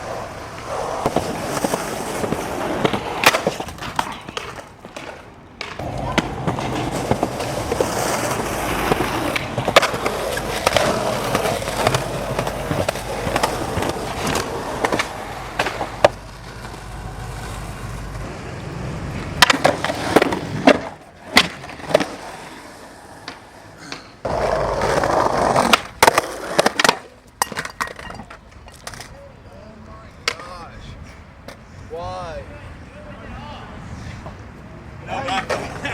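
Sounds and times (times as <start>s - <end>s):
skateboard clacking: 0.0s - 29.2s, 30.1s - 30.6s, 35.1s - 35.9s
skateboard wheels rolling on pavement: 0.0s - 35.9s.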